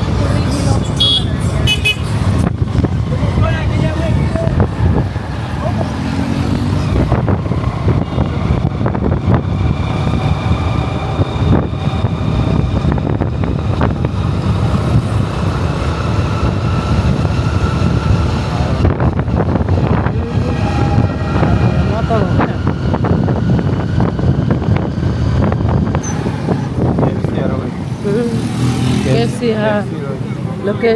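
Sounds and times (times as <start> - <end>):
motorcycle running: 0.0 - 30.9
wind buffeting microphone: 0.0 - 30.9.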